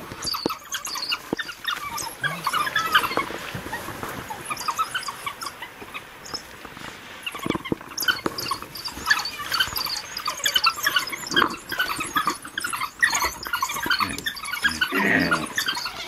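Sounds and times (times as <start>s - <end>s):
wild dogs twittering calls: 0.0s - 16.0s.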